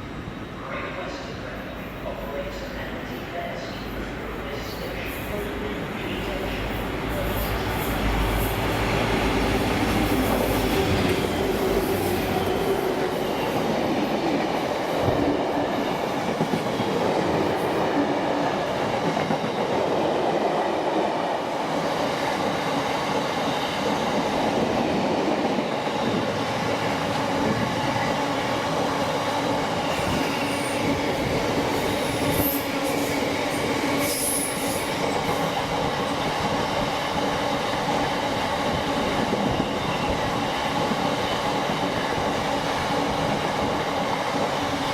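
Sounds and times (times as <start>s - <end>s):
train rumbling on rails: 0.0s - 44.9s.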